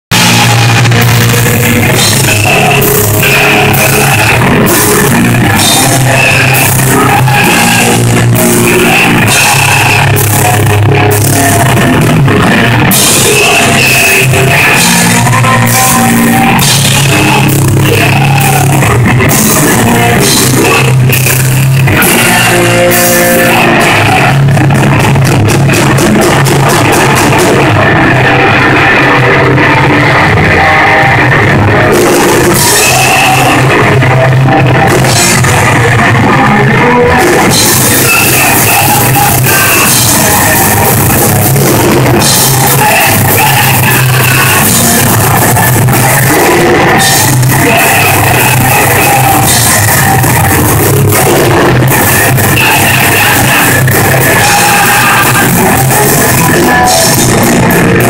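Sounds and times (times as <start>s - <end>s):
distorted electric guitar: 0.0s - 58.0s
person singing: 0.0s - 58.0s
drum kit with crashing cymbals: 0.1s - 58.0s.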